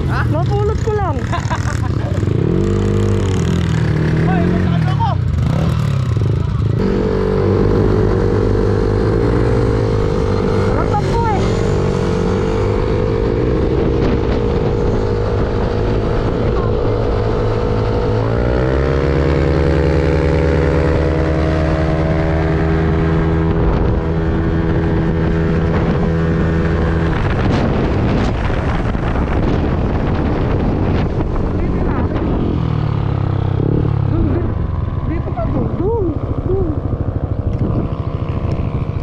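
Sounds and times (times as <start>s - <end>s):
scooter engine accelerating: 0.0s - 39.0s
wind rush on microphone: 1.9s - 39.0s.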